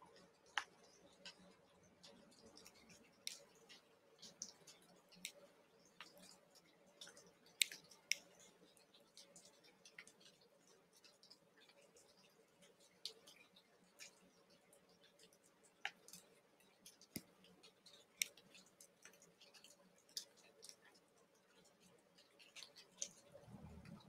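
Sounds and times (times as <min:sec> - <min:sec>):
faint clicks: 0:00.0 - 0:24.0
faint steady hum: 0:00.0 - 0:24.0.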